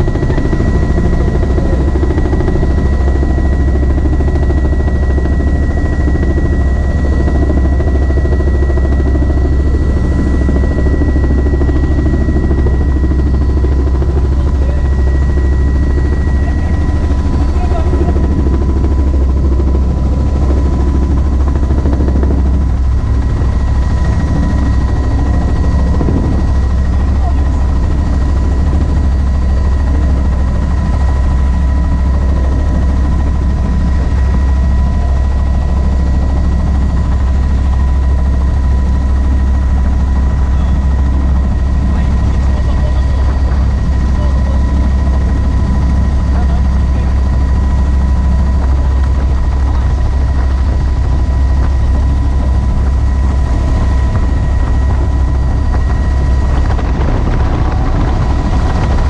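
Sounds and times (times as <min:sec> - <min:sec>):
helicopter rotor and engine drone: 0:00.0 - 0:59.0
thin steady whine: 0:00.0 - 0:59.0.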